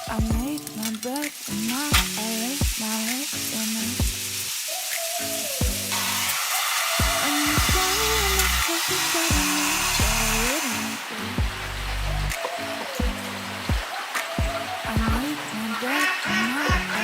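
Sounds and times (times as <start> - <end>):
background music with beat: 0.0 - 17.0
food sizzling: 0.0 - 17.0.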